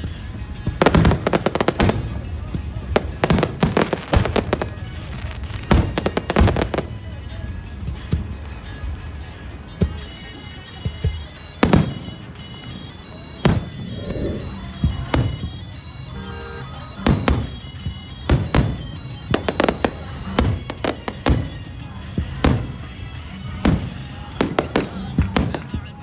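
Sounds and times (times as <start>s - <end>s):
fireworks bursting: 0.0s - 26.0s
music: 0.0s - 26.0s.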